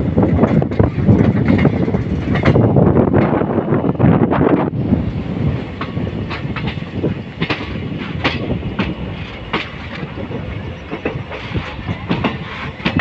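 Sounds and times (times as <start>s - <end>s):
wheels clacking over rail joints: 0.0s - 4.8s, 5.5s - 13.0s
train rumble: 0.0s - 13.0s.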